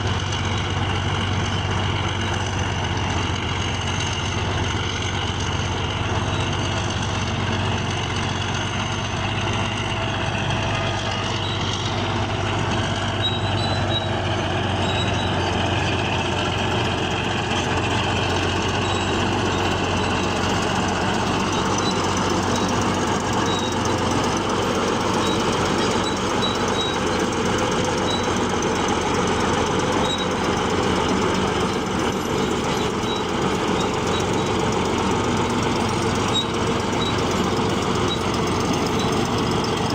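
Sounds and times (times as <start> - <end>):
bulldozer diesel engine running: 0.0 - 39.9
short high squeaks: 5.9 - 7.1, 8.6 - 39.9.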